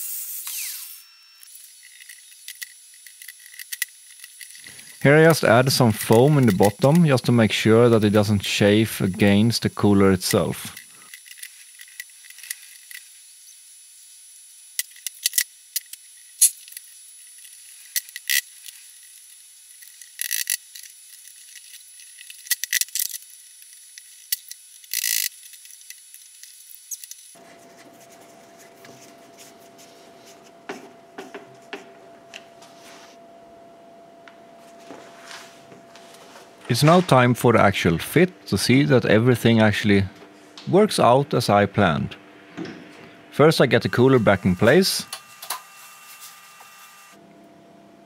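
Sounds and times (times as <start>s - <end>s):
steady hum: 1.0s - 48.0s.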